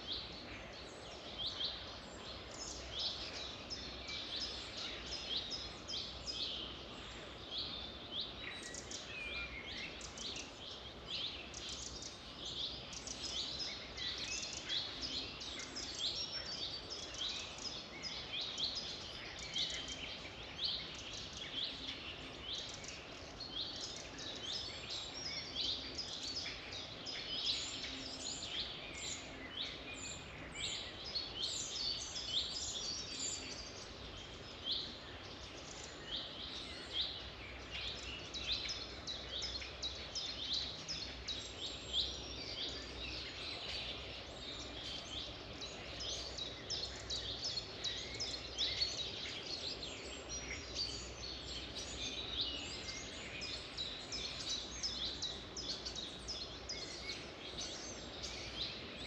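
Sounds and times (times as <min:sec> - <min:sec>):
faint background noise: 0:00.0 - 0:59.0
songbirds chirping: 0:00.0 - 0:59.0.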